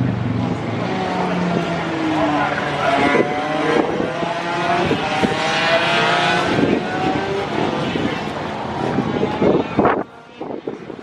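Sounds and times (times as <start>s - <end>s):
pit bike engines accelerating: 0.0s - 10.0s.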